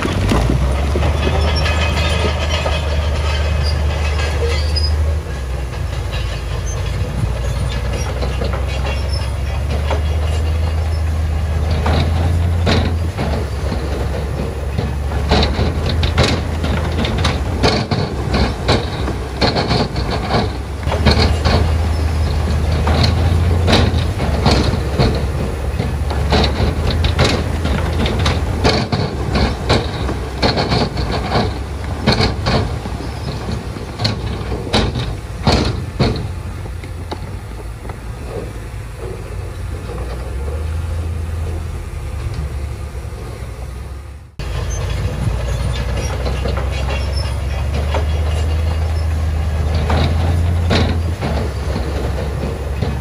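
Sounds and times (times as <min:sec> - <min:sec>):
bulldozer diesel engine: 0:00.0 - 0:53.0
steel tracks clanking: 0:00.0 - 0:53.0.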